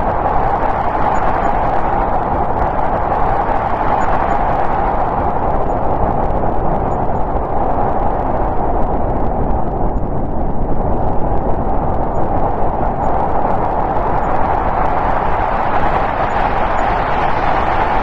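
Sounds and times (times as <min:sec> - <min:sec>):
storm wind blowing: 0:00.0 - 0:18.0.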